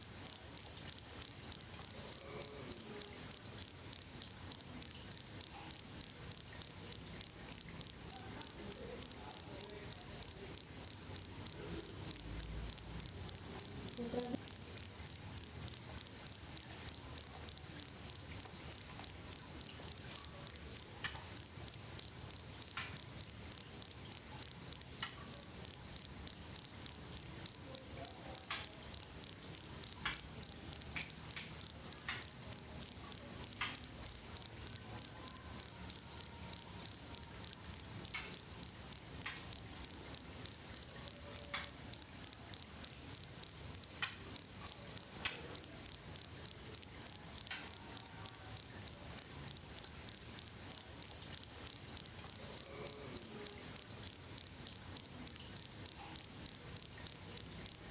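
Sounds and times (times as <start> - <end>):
cricket chirping: 0.0 - 57.9.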